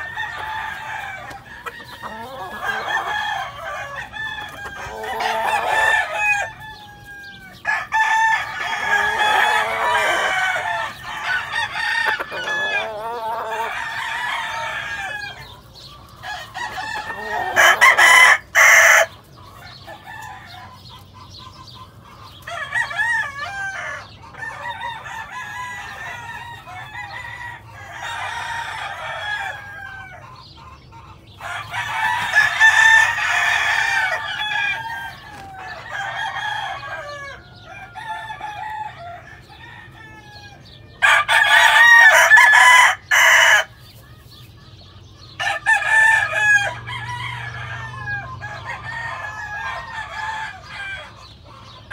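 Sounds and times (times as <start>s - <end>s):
chickens clucking: 0.0s - 51.9s
roosters crowing: 0.0s - 51.9s.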